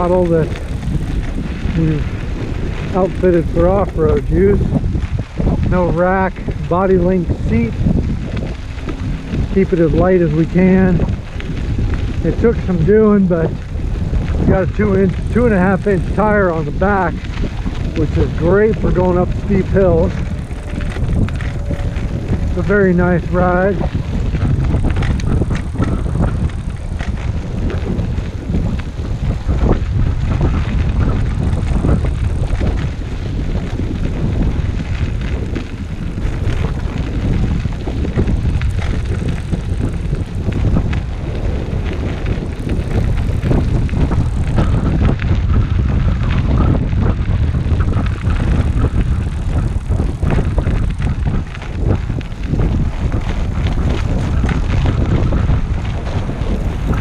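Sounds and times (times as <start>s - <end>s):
small clicks and rattles: 0.0s - 57.0s
tyre noise on dirt: 0.0s - 57.0s
wind on microphone: 0.0s - 57.0s.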